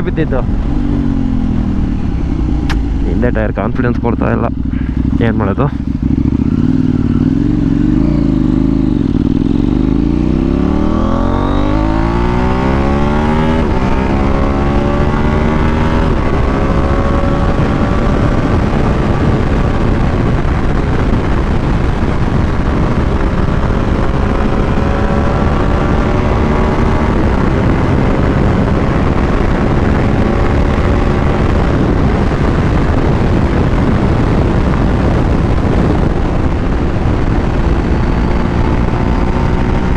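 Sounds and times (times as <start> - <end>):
motorbike engine accelerating: 0.0 - 39.9
wind and road noise: 0.0 - 39.9.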